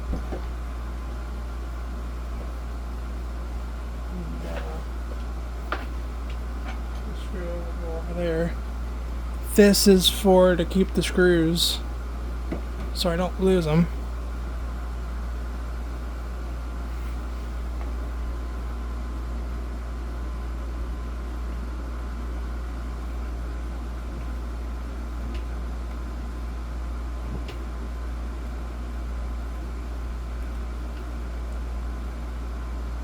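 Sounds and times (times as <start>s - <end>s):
low mechanical hum with hiss: 0.0s - 33.0s.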